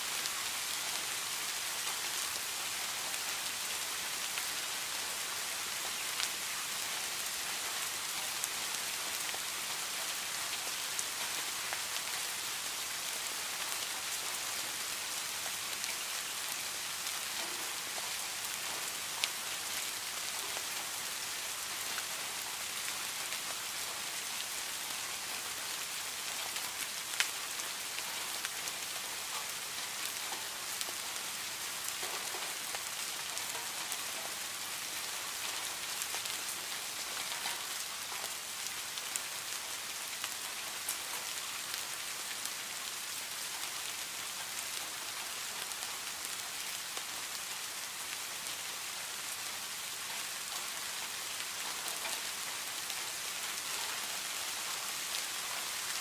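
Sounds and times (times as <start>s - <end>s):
rain on leafy plants: 0.0s - 56.0s.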